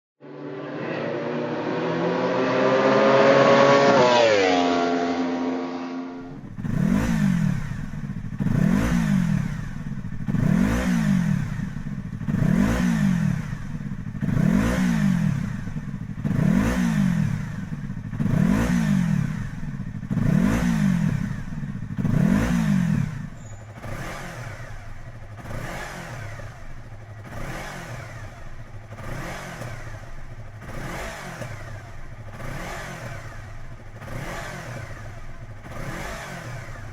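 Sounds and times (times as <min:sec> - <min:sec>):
motorcycle engine revving: 0:00.2 - 0:36.9
motorcycle engine idling: 0:06.1 - 0:36.9.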